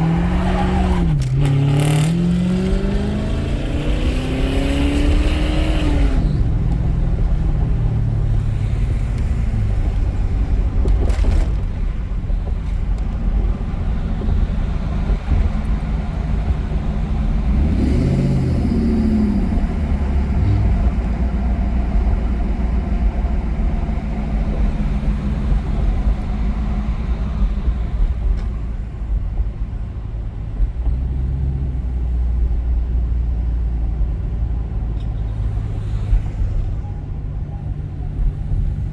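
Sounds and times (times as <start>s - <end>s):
car exhaust rumbling and revving: 0.0s - 38.9s.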